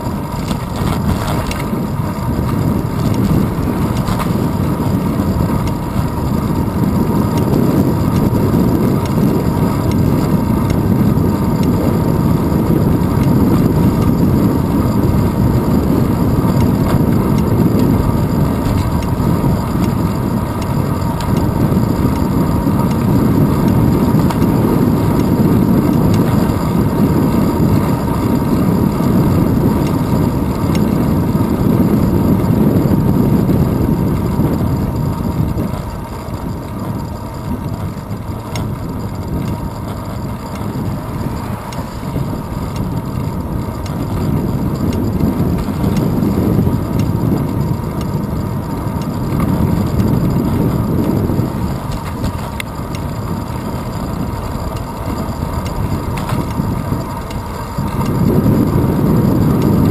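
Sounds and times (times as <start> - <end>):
wind and road rumble: 0.0 - 59.9.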